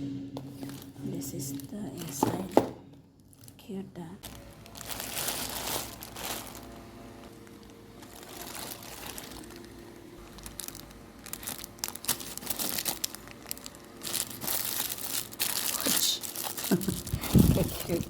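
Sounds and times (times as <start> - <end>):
packaging crinkling: 3.3 - 18.0.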